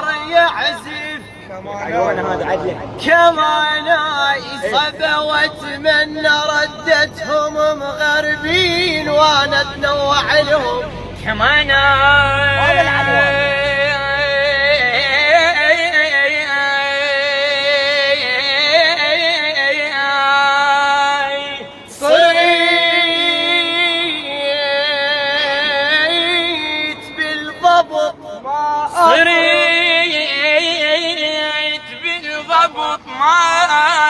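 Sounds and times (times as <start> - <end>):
man singing high solo: 3.3 - 20.3, 21.1 - 34.0.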